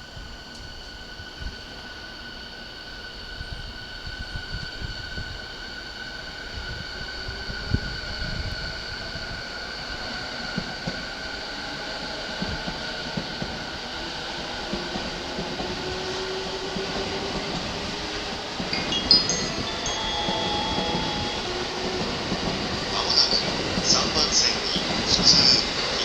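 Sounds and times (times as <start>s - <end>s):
electric train whine and rumble: 0.0s - 26.0s.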